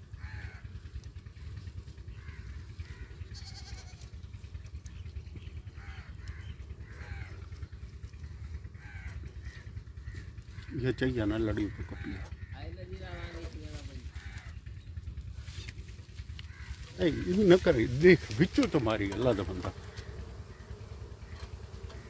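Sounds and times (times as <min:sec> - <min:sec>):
faint animal calls: 0:00.0 - 0:22.0
steady low rumble: 0:00.0 - 0:22.0.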